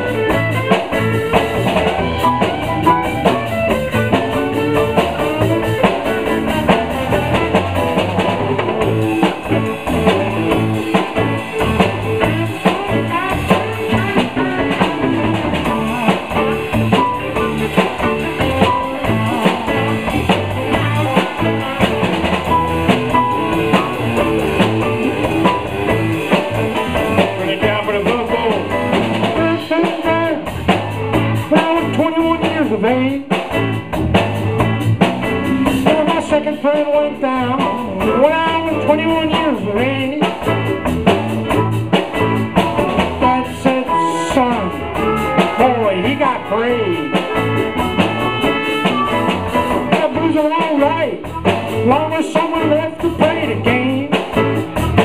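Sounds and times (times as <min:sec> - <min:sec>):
blues band playing: 0:00.0 - 0:55.0
drum kit steady beat: 0:00.0 - 0:55.0
guitar: 0:00.0 - 0:55.0.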